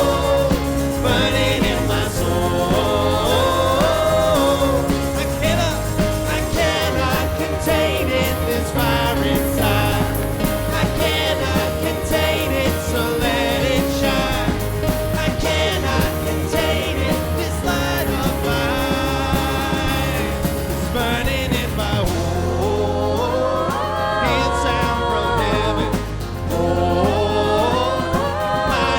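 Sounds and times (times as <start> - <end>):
live worship band playing: 0.0 - 28.9.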